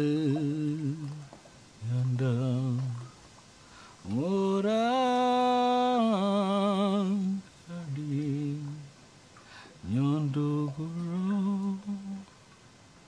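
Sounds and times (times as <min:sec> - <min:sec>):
man singing wordless chant: 0:00.0 - 0:03.2, 0:04.0 - 0:09.0, 0:09.7 - 0:12.3.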